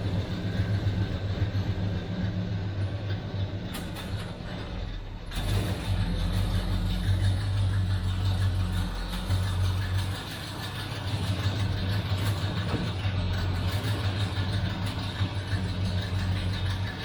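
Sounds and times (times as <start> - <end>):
pickup truck engine running: 0.0 - 17.0.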